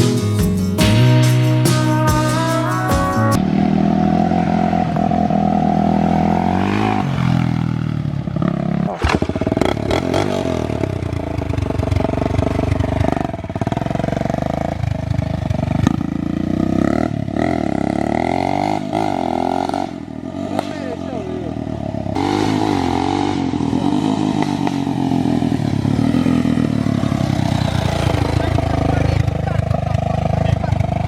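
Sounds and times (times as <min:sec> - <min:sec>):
off-road vehicle engine revving: 0:03.3 - 0:31.0.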